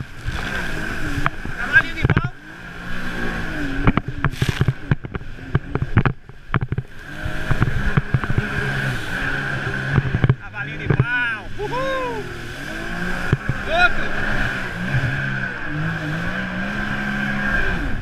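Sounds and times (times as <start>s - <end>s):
hull slapping water: 0.0s - 18.0s
jet ski engine running: 0.0s - 18.0s.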